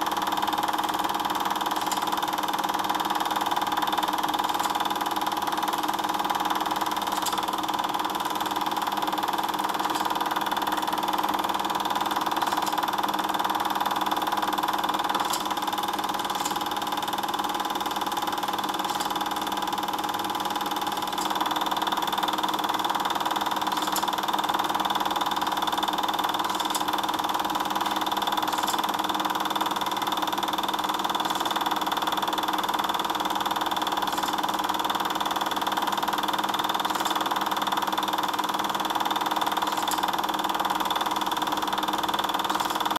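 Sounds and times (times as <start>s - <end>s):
film projector hum: 0.0s - 42.9s
faint projector clicks: 3.7s - 5.2s, 5.8s - 8.0s, 8.6s - 42.9s.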